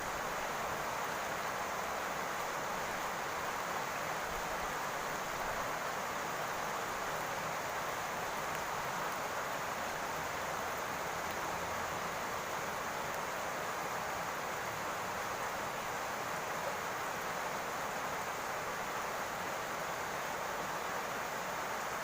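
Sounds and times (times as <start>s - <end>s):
rain falling on a roof: 0.0s - 22.0s.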